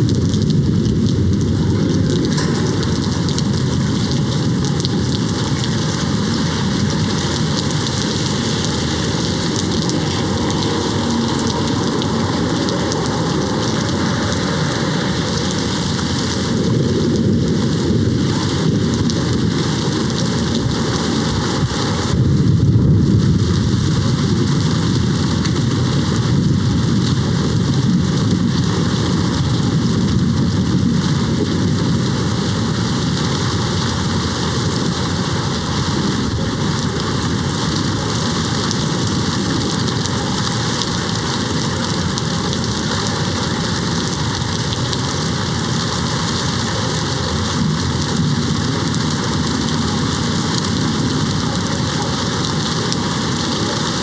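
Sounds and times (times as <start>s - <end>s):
distant thunder rumbling: 0.0s - 54.0s
heavy rain hitting window: 0.0s - 54.0s.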